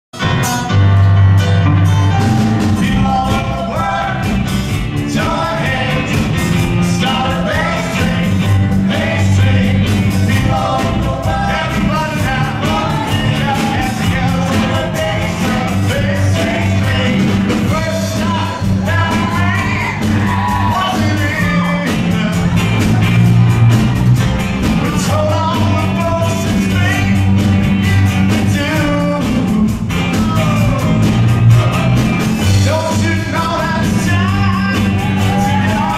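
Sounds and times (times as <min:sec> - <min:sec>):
live band playing: 0:00.1 - 0:35.9
person singing: 0:02.1 - 0:23.0, 0:24.7 - 0:35.9.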